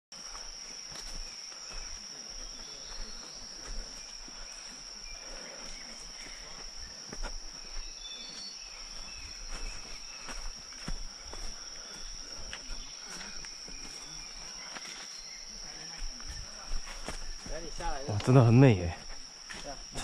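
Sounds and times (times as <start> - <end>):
insects droning: 0.1 - 20.0
footsteps on dirt: 0.2 - 20.0.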